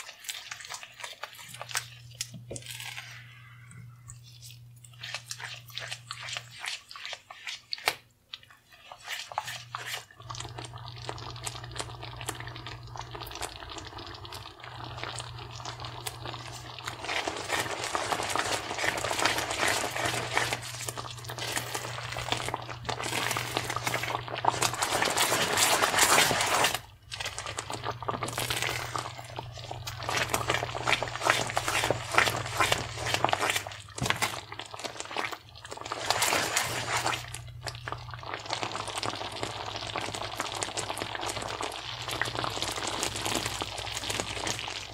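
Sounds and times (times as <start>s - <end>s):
low steady hum: 0.0s - 6.8s, 7.8s - 44.9s
sauce bubbling in a pan: 0.0s - 44.9s
spatula stirring: 0.0s - 44.9s.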